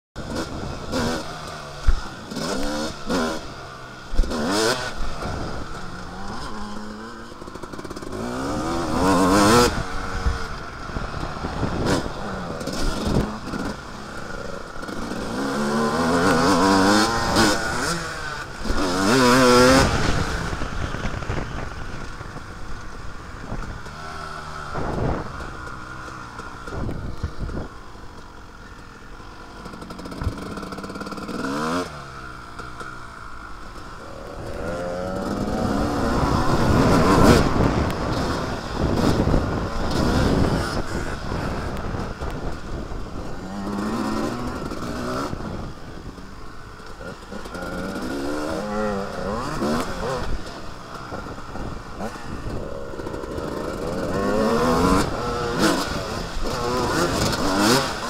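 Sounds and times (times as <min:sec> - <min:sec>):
two-stroke motocross engine revving: 0:00.2 - 0:58.0.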